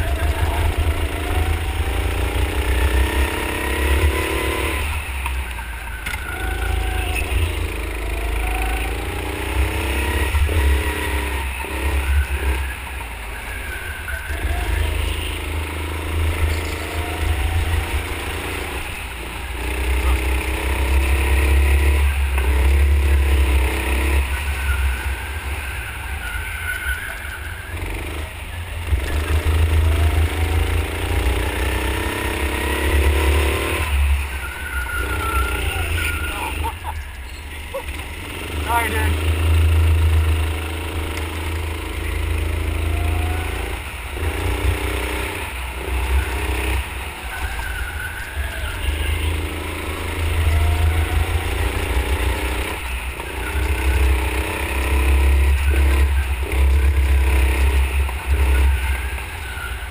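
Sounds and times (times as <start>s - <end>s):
go-kart engine revving: 0.0s - 59.9s.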